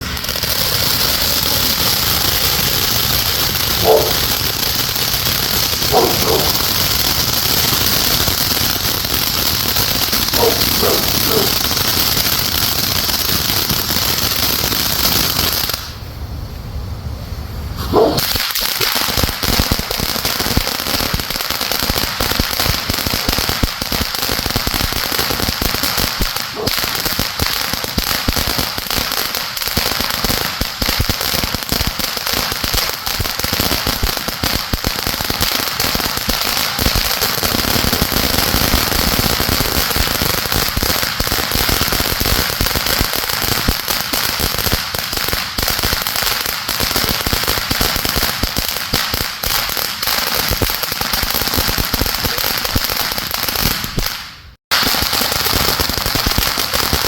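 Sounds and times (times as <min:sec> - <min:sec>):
fireworks crackling and popping: 0:00.0 - 0:16.3, 0:17.7 - 0:57.0.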